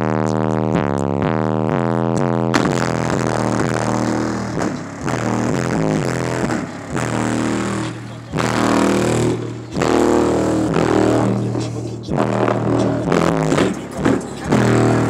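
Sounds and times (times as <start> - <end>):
bass-heavy music through subwoofers: 0.0 - 15.0.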